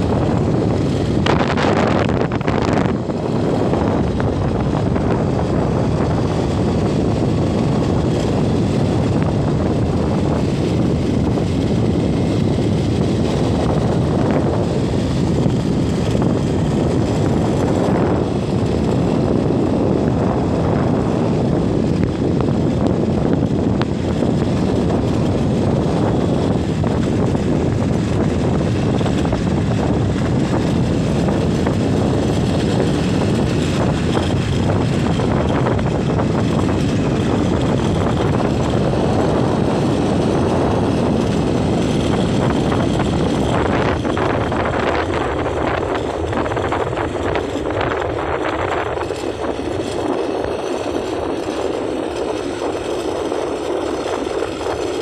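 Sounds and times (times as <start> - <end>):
moving vehicle rumble: 0.0 - 55.0
wind noise on microphone: 0.0 - 55.0.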